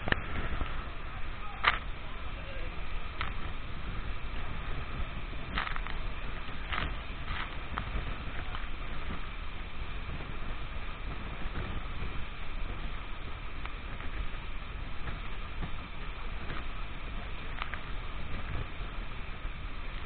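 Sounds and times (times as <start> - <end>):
waterfall roaring: 0.0 - 20.0
wind buffeting microphone: 0.0 - 20.0.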